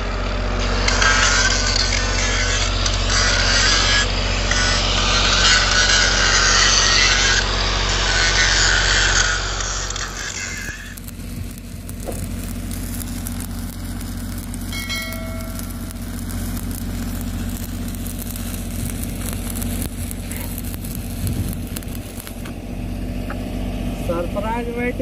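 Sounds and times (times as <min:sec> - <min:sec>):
low engine hum: 0:00.0 - 0:25.0
welding arc crackling: 0:00.0 - 0:25.0.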